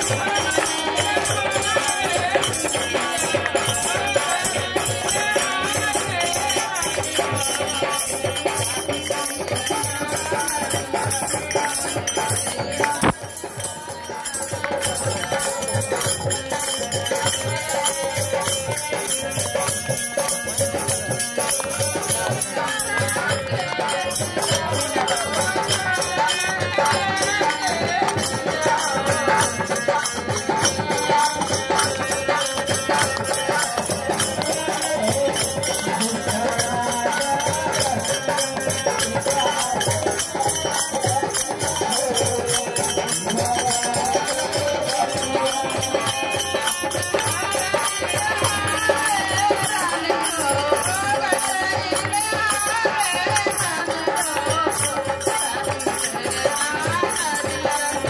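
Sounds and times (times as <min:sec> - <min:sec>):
folk singing: 0:00.0 - 0:58.0
rattling percussion beat: 0:00.0 - 0:58.0.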